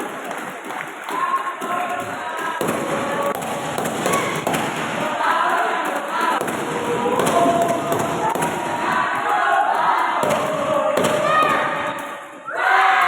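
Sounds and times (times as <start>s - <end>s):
spectators shouting and cheering: 0.0s - 13.0s.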